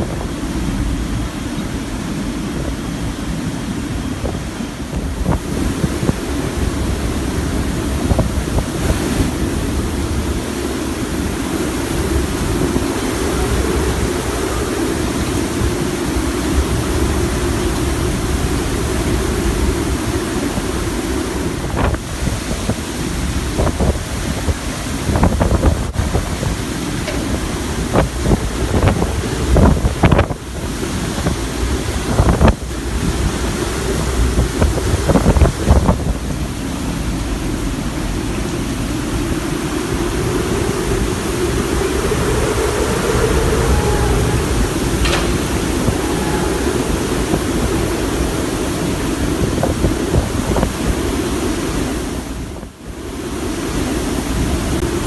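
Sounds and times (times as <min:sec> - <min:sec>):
hurricane wind buffeting microphone: 0:00.0 - 0:55.0.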